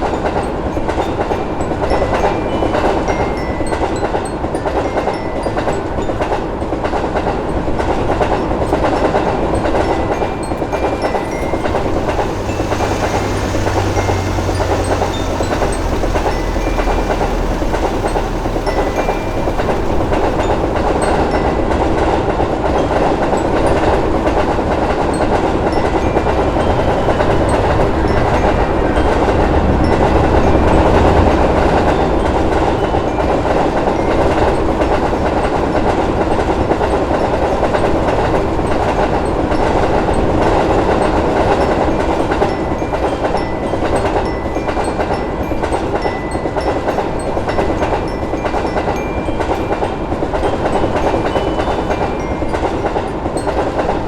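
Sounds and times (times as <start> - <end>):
train wheels clattering on rails: 4.6 - 54.0.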